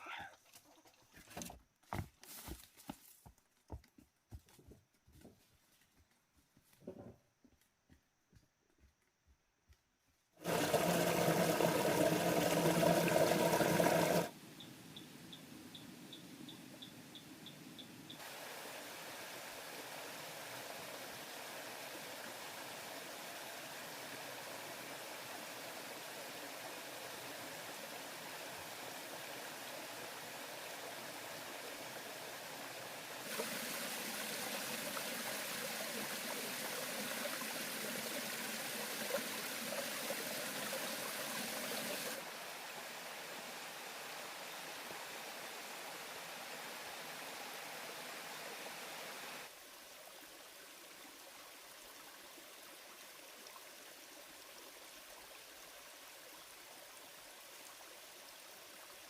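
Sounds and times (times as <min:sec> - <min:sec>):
stream water running: 0:10.4 - 0:59.0.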